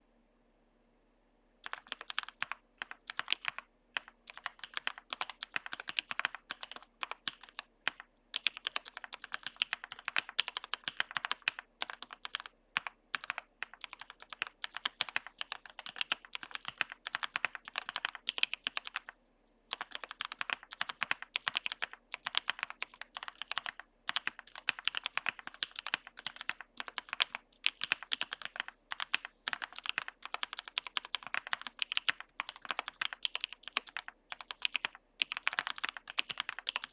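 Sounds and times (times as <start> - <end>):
fast typing on mechanical keyboard: 1.6 - 36.9.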